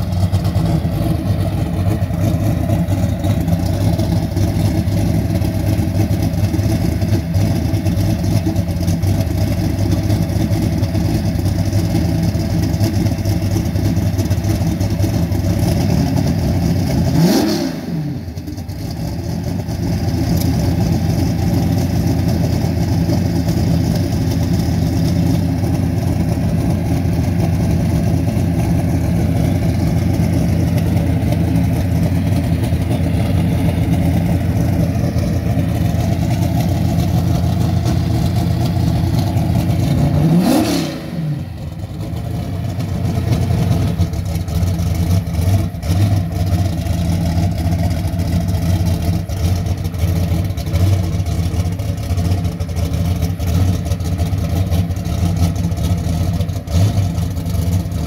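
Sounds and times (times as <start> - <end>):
car engine idling loudly: 0.0 - 58.0.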